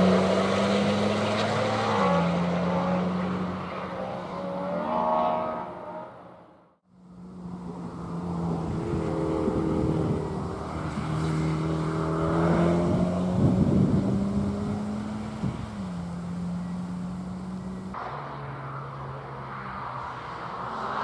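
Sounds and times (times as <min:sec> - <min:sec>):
race car engine passing: 0:00.0 - 0:21.0.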